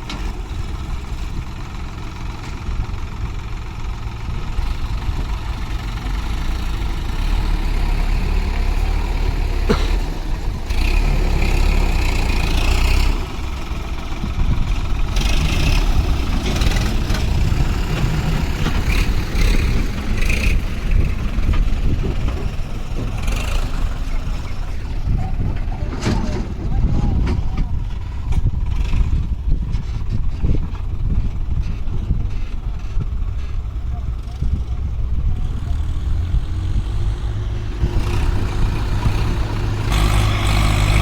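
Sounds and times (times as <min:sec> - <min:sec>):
heavy diesel engine rumbling: 0:00.0 - 0:41.0.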